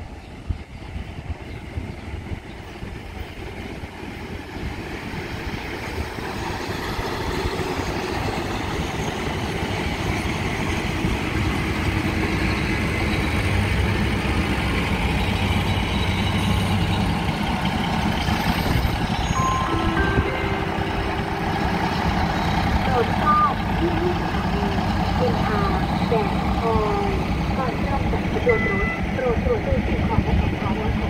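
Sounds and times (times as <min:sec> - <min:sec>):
diesel train engine rumble: 0:00.0 - 0:31.0
train wheels on rails: 0:00.1 - 0:31.0.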